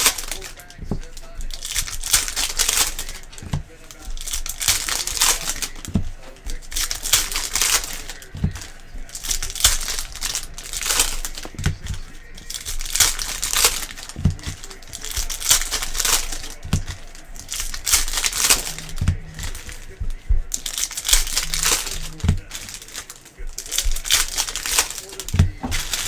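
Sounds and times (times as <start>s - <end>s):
plastic wrappers crinkling and tearing: 0.0s - 26.0s.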